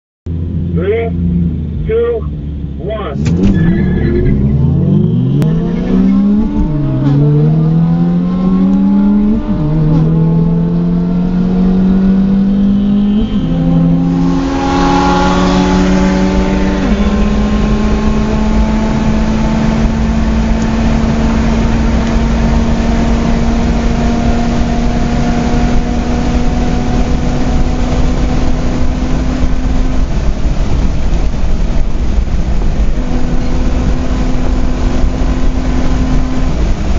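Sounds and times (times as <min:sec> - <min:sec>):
car engine at full throttle: 0:00.3 - 0:36.9.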